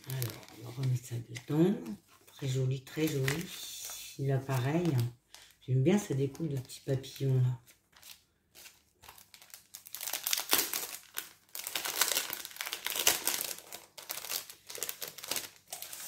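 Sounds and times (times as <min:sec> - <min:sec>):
paper and card crinkling: 0:00.0 - 0:16.0.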